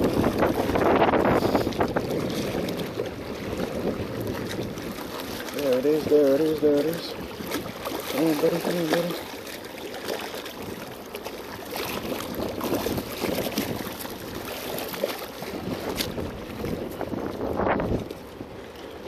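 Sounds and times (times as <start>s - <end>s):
wind on microphone: 0.0s - 9.2s, 11.6s - 19.0s
water sloshing and splashing: 0.0s - 19.0s.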